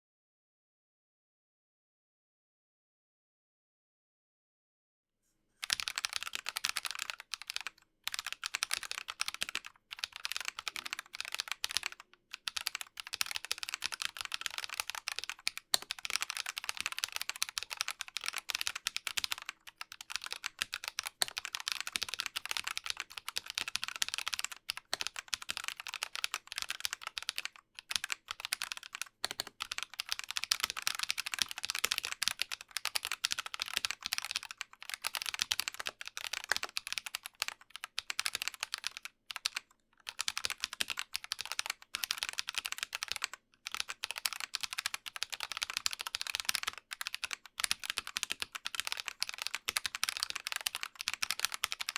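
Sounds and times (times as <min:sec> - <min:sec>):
mechanical keyboard typing: 0:05.6 - 0:51.9.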